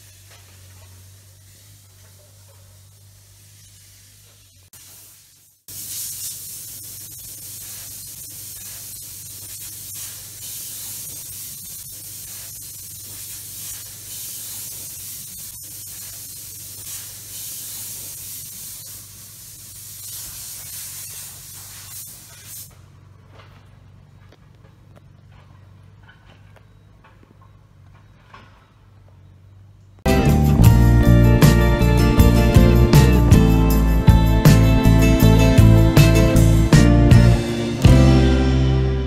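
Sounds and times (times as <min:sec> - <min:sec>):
steady hiss: 0:00.0 - 0:22.8, 0:30.0 - 0:39.0.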